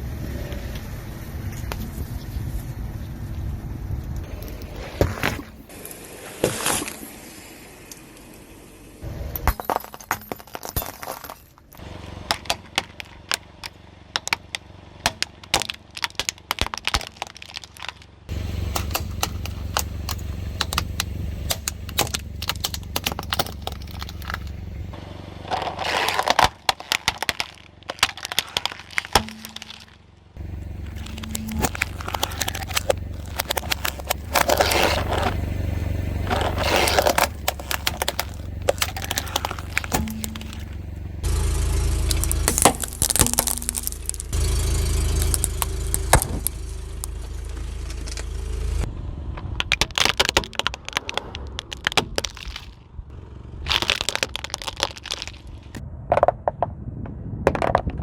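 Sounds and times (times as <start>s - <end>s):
car low rumble: 0.0s - 58.0s
brittle objects cracking under tyre: 4.1s - 58.0s.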